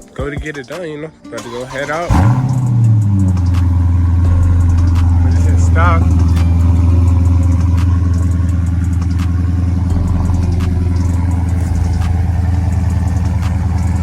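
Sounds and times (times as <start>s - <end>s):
car engine idling: 1.4s - 14.0s.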